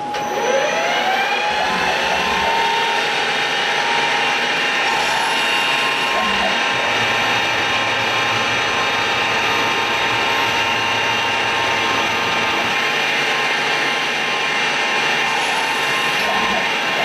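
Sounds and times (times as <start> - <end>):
mill spindle whine: 0.0 - 17.0.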